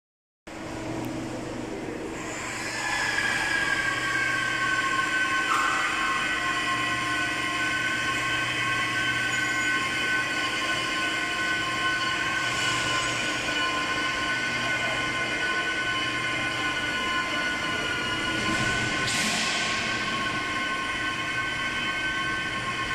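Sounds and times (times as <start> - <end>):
overhead crane whining: 0.5 - 22.9.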